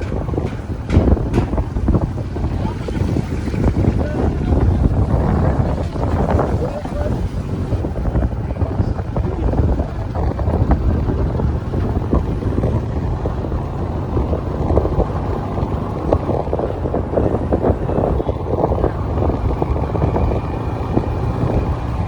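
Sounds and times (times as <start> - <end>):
passing road traffic rumble: 0.0 - 22.0
wind buffeting microphone: 0.0 - 22.0.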